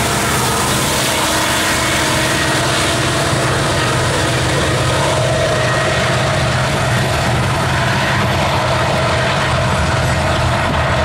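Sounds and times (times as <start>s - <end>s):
diesel locomotive engine hum: 0.0s - 11.0s
wheels rumbling over rails: 0.0s - 11.0s.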